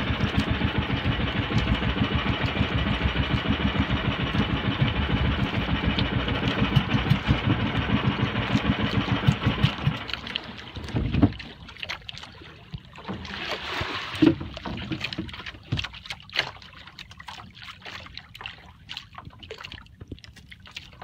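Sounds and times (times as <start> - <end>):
small knocks and clicks in boat: 0.0 - 21.0
water lapping against boat hull: 0.0 - 21.0.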